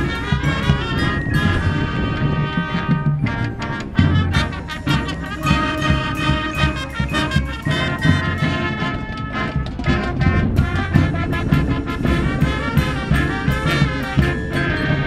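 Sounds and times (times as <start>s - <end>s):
brass horns playing chords: 0.0s - 15.0s
mallet percussion: 0.0s - 15.0s
marching band playing: 0.0s - 15.0s.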